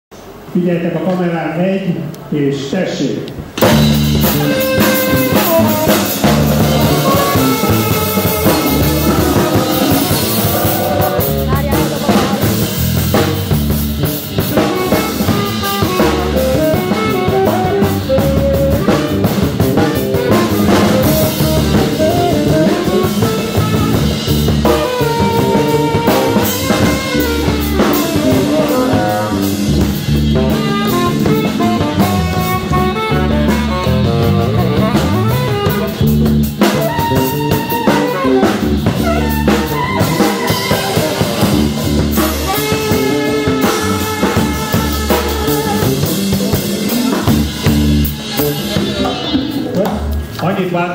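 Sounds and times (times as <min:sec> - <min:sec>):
drum kit beat: 0:03.4 - 0:50.4
keyboard: 0:03.4 - 0:50.9
saxophone: 0:03.6 - 0:50.3.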